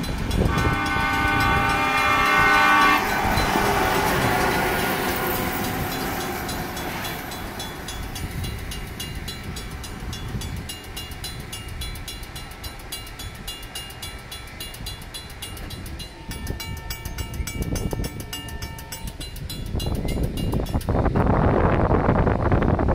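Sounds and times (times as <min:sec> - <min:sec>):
railroad crossing bell ringing: 0:00.0 - 0:21.4
machine engine and wheels: 0:00.0 - 0:22.9.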